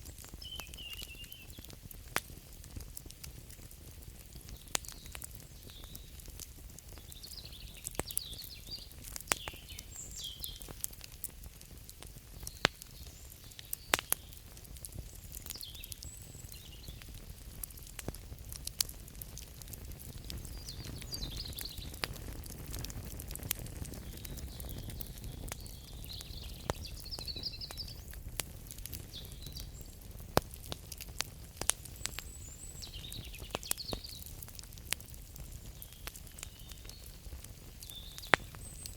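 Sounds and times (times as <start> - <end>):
crackling wood fire: 0.0 - 38.9
sharp fire pops: 0.0 - 38.9.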